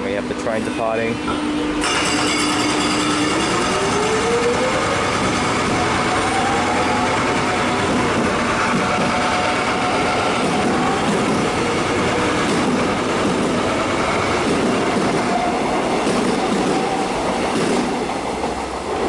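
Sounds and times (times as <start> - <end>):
steel wheels on rail: 0.6 - 19.0.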